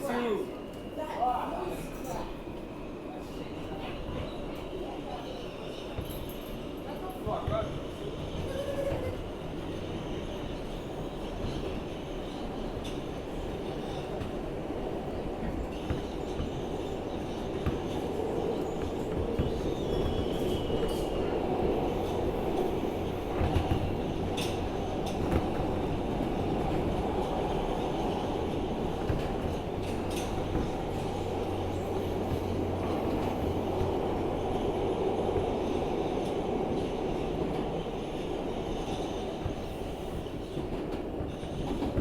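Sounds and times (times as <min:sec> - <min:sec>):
wheels rumbling on rail: 0:05.2 - 0:42.0.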